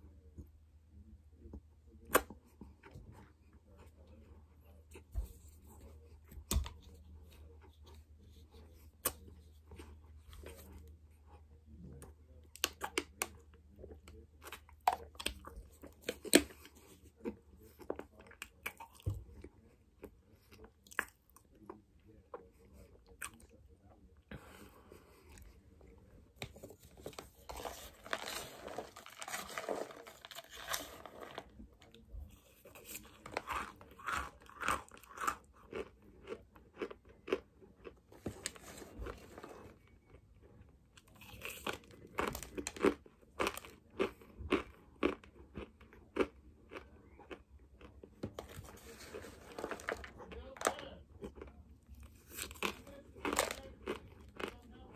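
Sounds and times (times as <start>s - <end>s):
chewing crunchy cornstarch: 1.0s - 54.9s.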